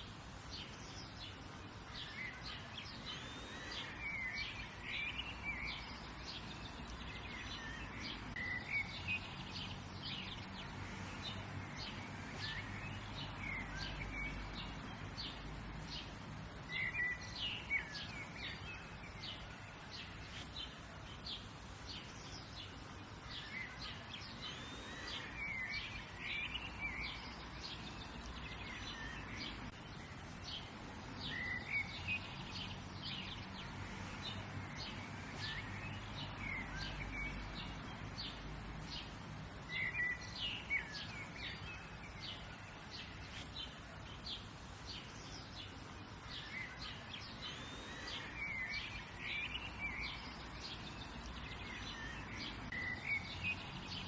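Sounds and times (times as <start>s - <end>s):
low background noise: 0.0s - 54.0s
birds chirping and singing: 0.4s - 54.0s.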